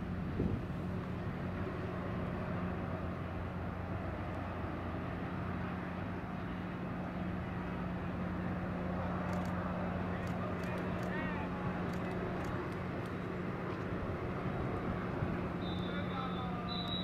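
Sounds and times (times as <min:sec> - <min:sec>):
ship machinery drone: 0:00.0 - 0:17.0.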